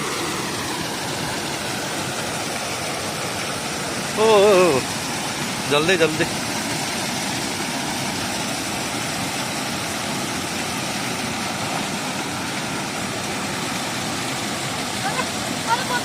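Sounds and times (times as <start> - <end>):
small waterfall roaring: 0.0 - 16.0.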